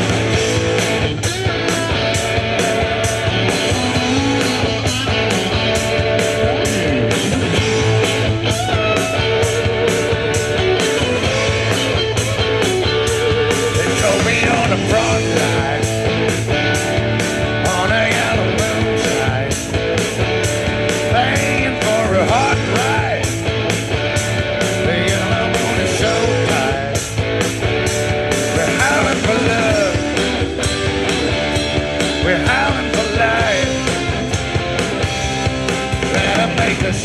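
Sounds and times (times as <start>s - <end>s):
drums steady beat: 0.0s - 37.0s
electric guitar: 0.0s - 37.0s.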